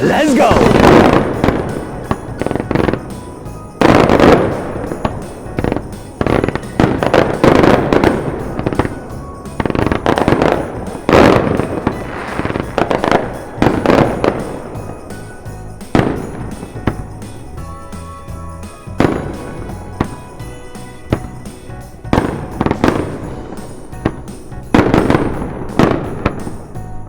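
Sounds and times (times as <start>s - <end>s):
background music: 0.0s - 27.0s
fireworks booming and crackling: 0.0s - 27.0s.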